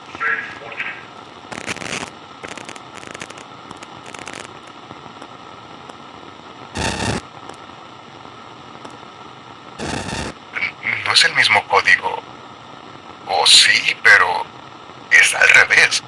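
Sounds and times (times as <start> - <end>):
crackling noise bursts: 0.0 - 16.0
walkie-talkie static hiss: 0.0 - 16.0.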